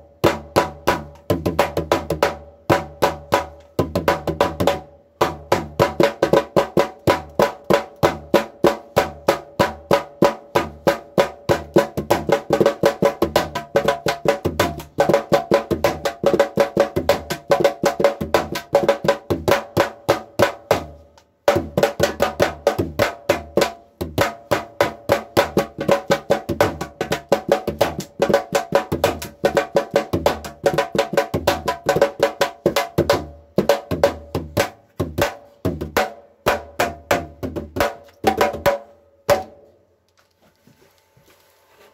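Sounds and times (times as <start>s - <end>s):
hand drum rhythm: 0.0s - 39.6s.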